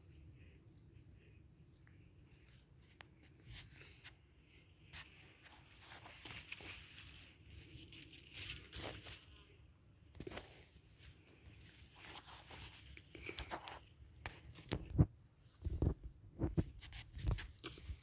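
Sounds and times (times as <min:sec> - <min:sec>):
faint rustling and crinkling: 0:00.0 - 0:18.0.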